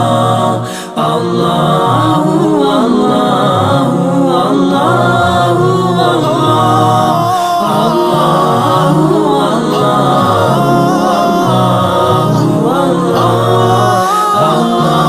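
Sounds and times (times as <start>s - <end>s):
low vocal drone: 0.0s - 15.0s
voices humming and singing: 0.0s - 15.0s.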